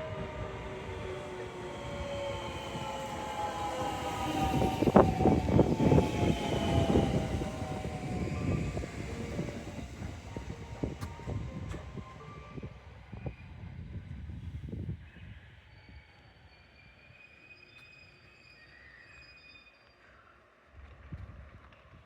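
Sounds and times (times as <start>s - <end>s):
train motor whine: 0.0s - 20.1s.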